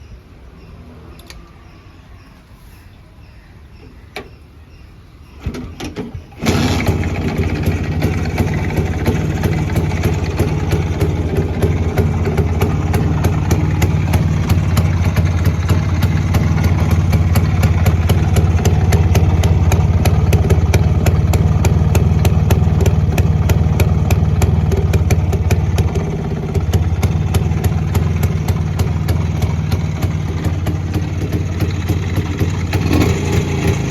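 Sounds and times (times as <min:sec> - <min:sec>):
motorcycle engine idling: 0:05.3 - 0:33.9
motorcycle engine sputtering: 0:05.3 - 0:33.9.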